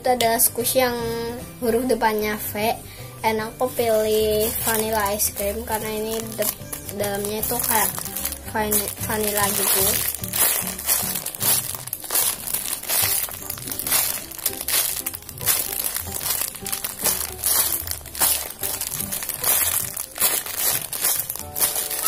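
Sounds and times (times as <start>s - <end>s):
background music: 0.0s - 22.0s
plastic bag crinkling: 3.9s - 22.0s.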